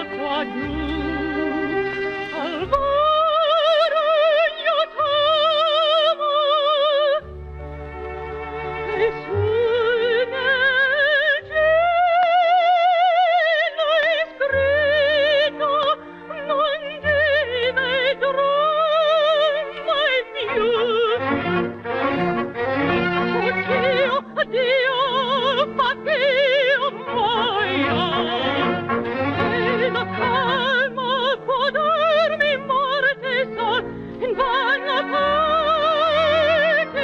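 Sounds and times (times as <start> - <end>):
instrumental accompaniment: 0.0 - 37.0.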